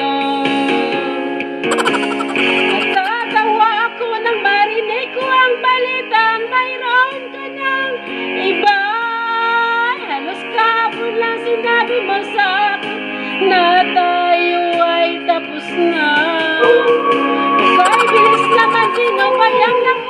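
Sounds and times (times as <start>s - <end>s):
woman singing a ballad: 0.0s - 1.2s, 2.9s - 20.0s
instrumental backing music: 0.0s - 20.0s.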